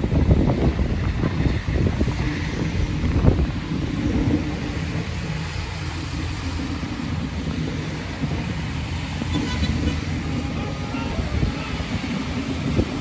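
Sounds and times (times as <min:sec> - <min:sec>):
road traffic rumble: 0:00.0 - 0:13.0
wind on microphone: 0:00.0 - 0:13.0.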